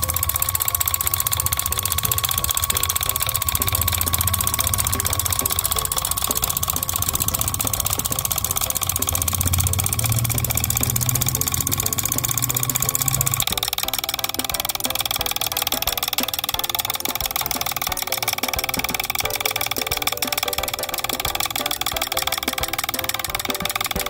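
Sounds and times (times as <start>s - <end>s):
small tractor motor running: 0.0s - 24.0s
wheels through muddy water: 0.0s - 24.0s.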